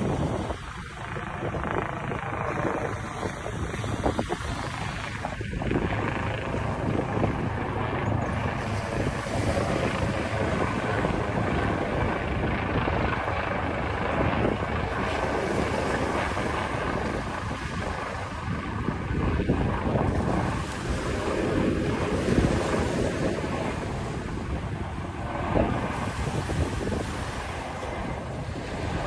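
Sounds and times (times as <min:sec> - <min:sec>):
open water: 0:00.0 - 0:29.0
wind rushing over microphone: 0:00.0 - 0:29.0.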